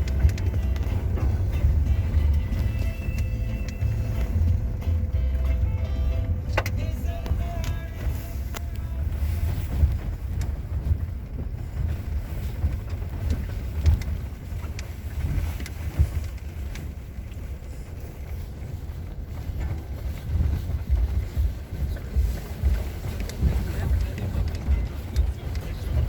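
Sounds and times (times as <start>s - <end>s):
off-road vehicle rumble: 0.0s - 26.0s
wind buffeting microphone: 0.0s - 26.0s.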